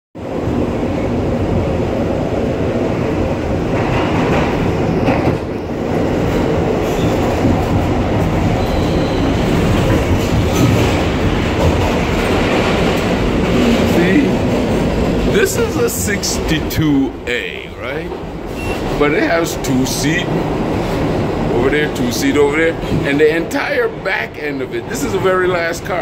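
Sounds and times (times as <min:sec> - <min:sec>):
subway car wheels rumbling: 0:00.2 - 0:26.0.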